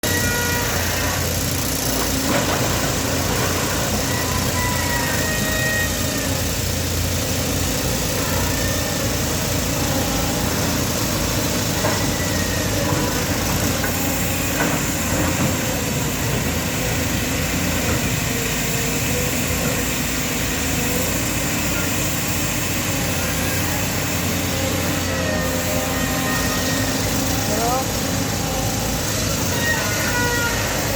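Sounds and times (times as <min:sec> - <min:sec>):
diesel engine of heavy machinery: 0:00.0 - 0:30.9.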